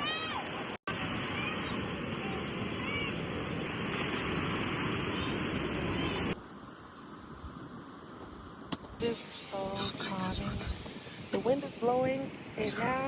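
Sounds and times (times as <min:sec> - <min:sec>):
ocean surf washing onto beach: 0:00.0 - 0:13.0
wind on microphone: 0:00.9 - 0:13.0.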